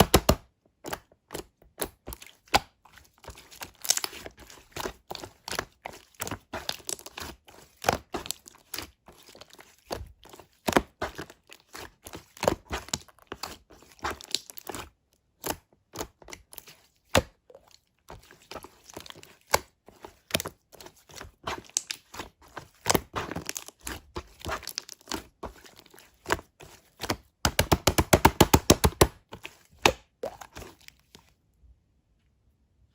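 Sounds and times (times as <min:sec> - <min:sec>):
slime squished by hand: 0:00.0 - 0:31.2.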